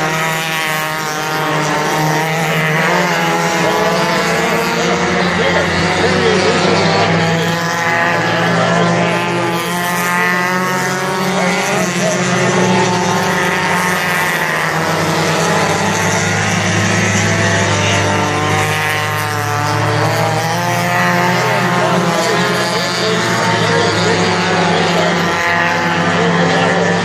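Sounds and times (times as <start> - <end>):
race car engines passing: 0.0 - 27.0.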